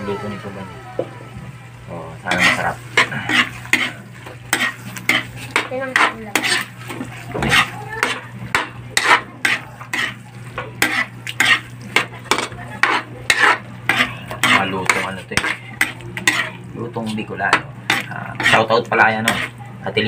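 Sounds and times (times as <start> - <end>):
metal spatula scraping a wok: 2.2 - 19.6.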